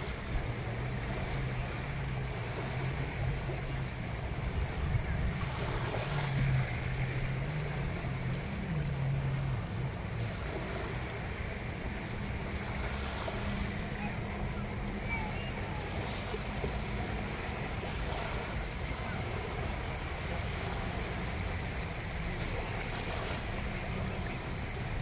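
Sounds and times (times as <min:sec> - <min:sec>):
small waves lapping on sand: 0:00.0 - 0:25.0.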